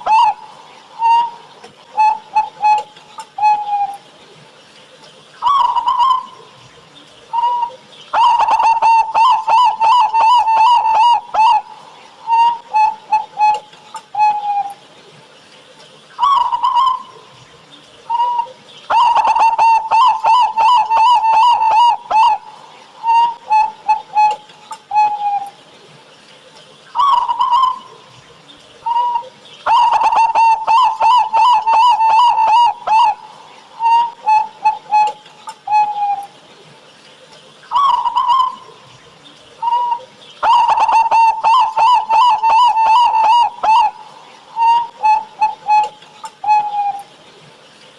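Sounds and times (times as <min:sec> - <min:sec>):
dove cooing: 0:00.0 - 0:04.2, 0:05.4 - 0:14.9, 0:16.2 - 0:25.7, 0:27.0 - 0:28.2, 0:28.8 - 0:36.4, 0:37.7 - 0:47.2.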